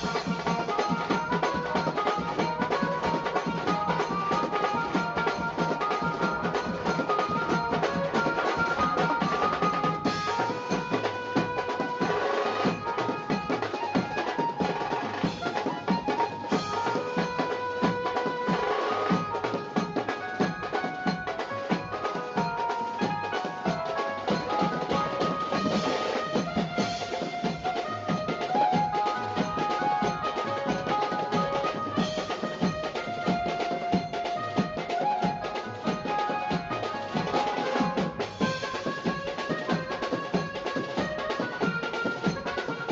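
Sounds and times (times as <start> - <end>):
background music with drums: 0.0 - 42.9.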